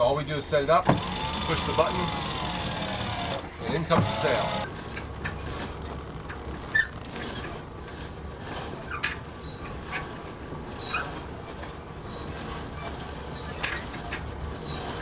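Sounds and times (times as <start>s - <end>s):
electric winch running: 0.0s - 15.0s
clicks and knocks from winch gear: 0.6s - 15.0s.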